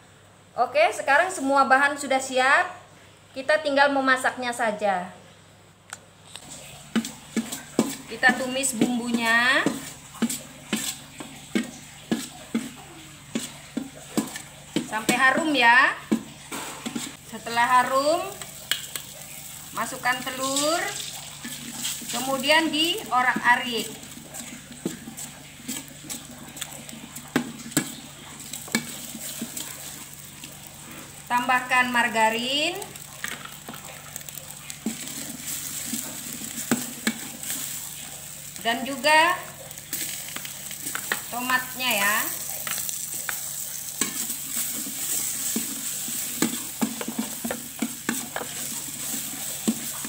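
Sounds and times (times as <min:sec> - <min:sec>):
frying sizzle: 0:06.3 - 0:50.0
metal spatula scraping wok: 0:06.6 - 0:31.7, 0:33.0 - 0:50.0.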